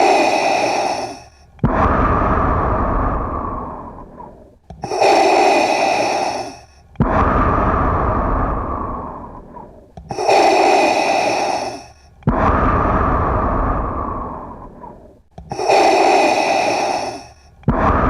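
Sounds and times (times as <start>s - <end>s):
mechanical respirator breathing: 0.0s - 18.0s.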